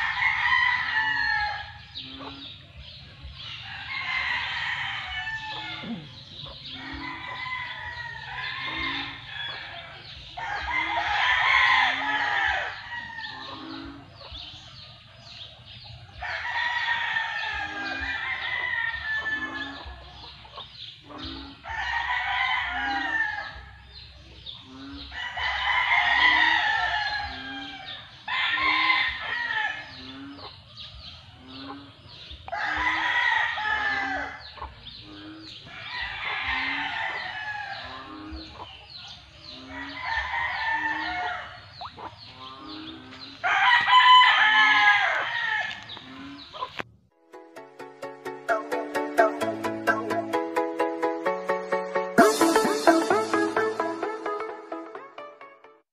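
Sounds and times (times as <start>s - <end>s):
roosters crowing: 0.0s - 24.0s, 24.7s - 46.8s
chickens clucking: 0.0s - 55.0s.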